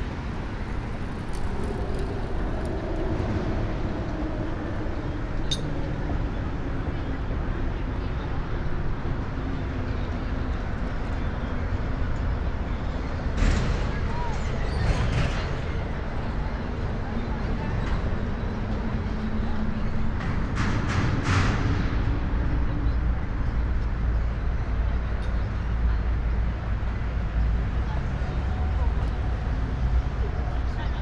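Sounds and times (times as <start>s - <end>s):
city background noise: 0.0s - 31.0s
passing vehicle engine hum: 0.0s - 31.0s.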